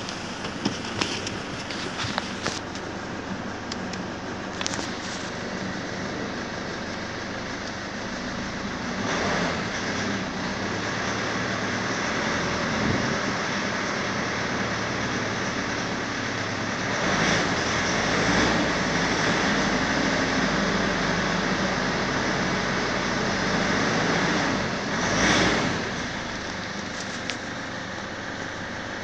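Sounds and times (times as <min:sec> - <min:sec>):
diesel engine idling and revving: 0:00.0 - 0:29.0.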